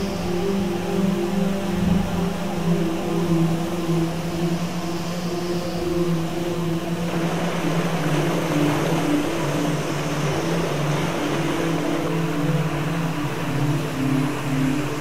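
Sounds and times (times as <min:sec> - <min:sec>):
low humming drone: 0:00.0 - 0:15.0
river water over rapids: 0:00.0 - 0:15.0.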